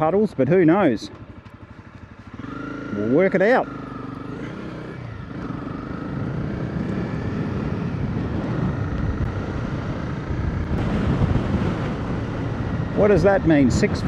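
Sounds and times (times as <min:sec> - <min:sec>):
motorcycle engine accelerating: 0:00.0 - 0:14.0
wind and track rushing: 0:02.3 - 0:14.0.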